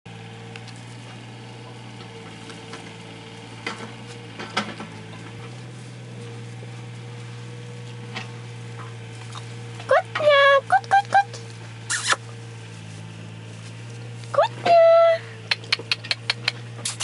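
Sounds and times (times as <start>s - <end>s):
steady low hum: 0.1s - 17.0s
straw rustling and crackling: 0.4s - 15.0s.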